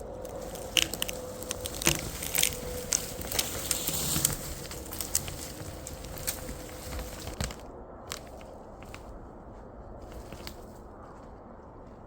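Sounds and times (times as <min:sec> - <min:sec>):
faint steady hum: 0:00.0 - 0:12.0
footsteps crunching frozen leaves: 0:00.0 - 0:12.0.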